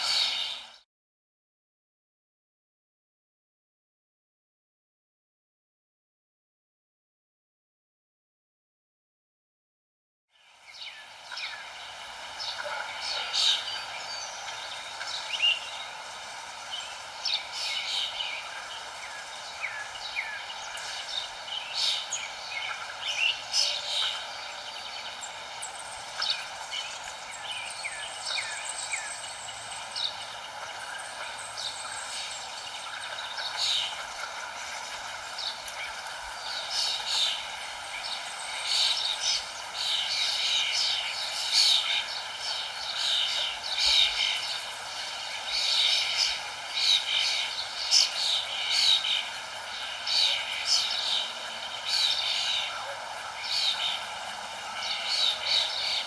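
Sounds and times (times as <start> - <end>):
songbirds chirping and trilling: 0.0 - 0.8, 10.3 - 56.0
steady background hiss: 0.0 - 0.8, 10.4 - 56.0.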